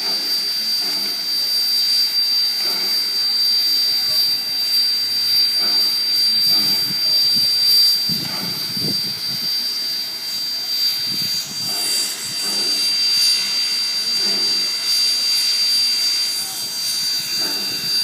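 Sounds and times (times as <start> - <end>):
faint voices: 0.0 - 18.0
steam hissing: 0.0 - 18.0
thin high whine: 0.0 - 18.0.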